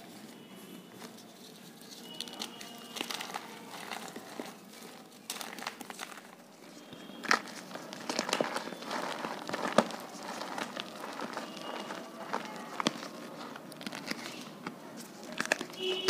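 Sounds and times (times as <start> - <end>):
powder chunks crunching: 0.0 - 16.0.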